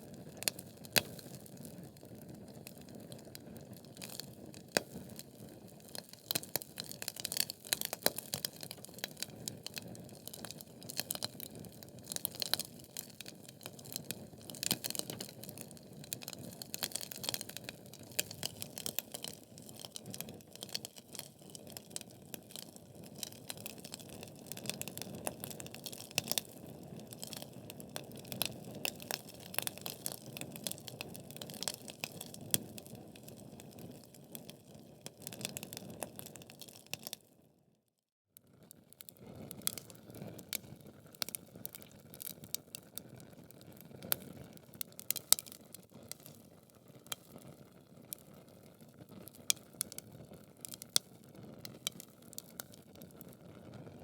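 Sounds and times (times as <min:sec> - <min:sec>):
logs crackling and popping: 0:00.4 - 0:37.2, 0:39.1 - 0:53.4.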